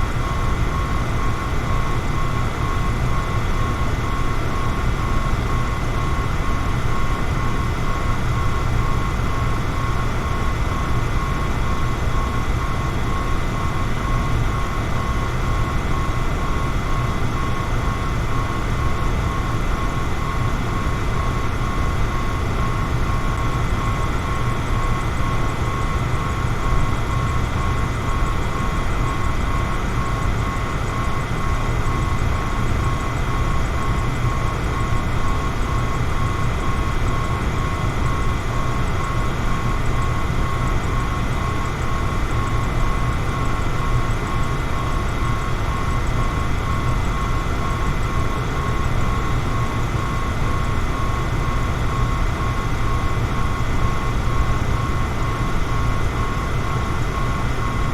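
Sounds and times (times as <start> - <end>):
faint motor whine: 0.0 - 57.9.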